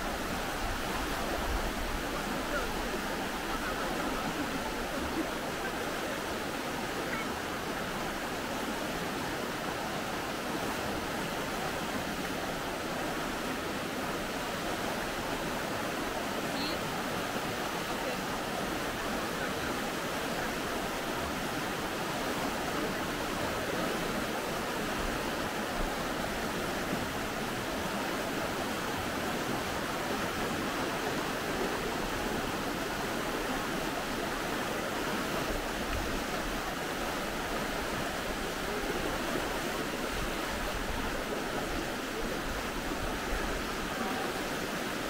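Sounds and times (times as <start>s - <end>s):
river rushing over stones: 0.0s - 45.0s.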